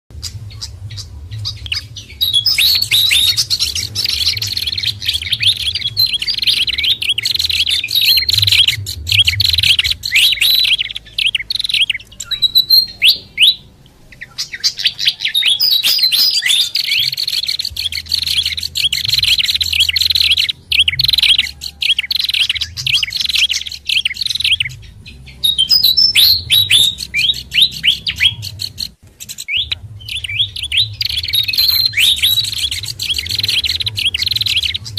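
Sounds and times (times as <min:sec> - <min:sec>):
low hum: 0:00.1 - 0:15.0, 0:16.8 - 0:34.9
songbirds chirping: 0:00.1 - 0:34.9.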